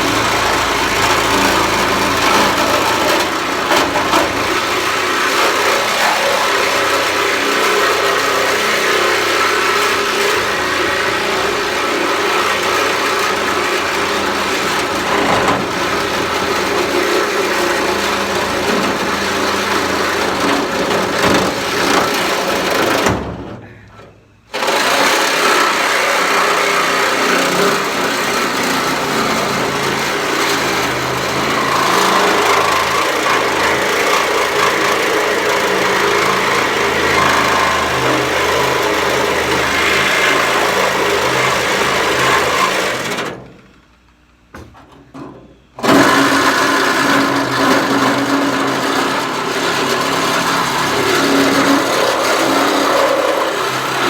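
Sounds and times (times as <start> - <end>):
power tool cutting sheet metal: 0.0 - 23.2, 24.5 - 43.6, 45.8 - 54.0.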